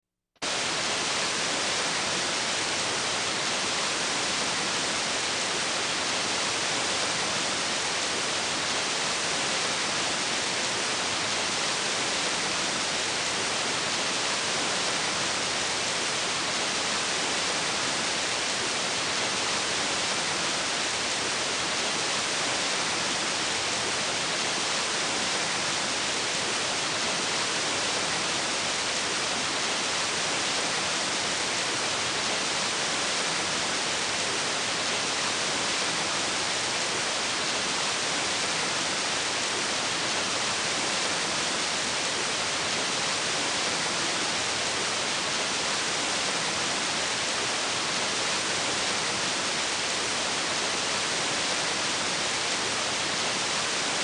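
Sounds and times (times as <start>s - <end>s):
waterfall rushing: 0.4s - 54.0s.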